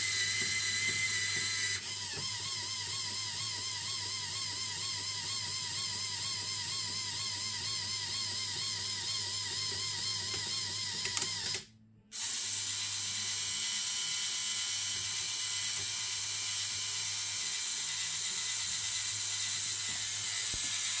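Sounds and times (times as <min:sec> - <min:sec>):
motors and plastic gears whirring: 0:00.0 - 0:21.0.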